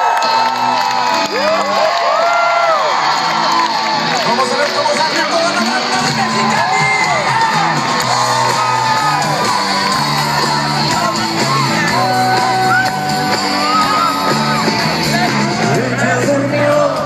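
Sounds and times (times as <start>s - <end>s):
crowd singing and shouting: 3.0s - 17.0s
live band playing: 3.0s - 17.0s.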